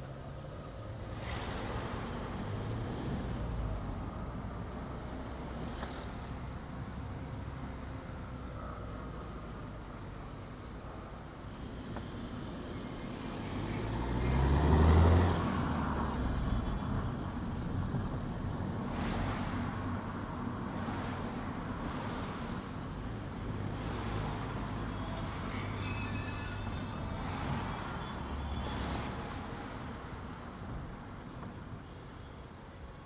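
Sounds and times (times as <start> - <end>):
car driving on road: 0.0 - 33.0.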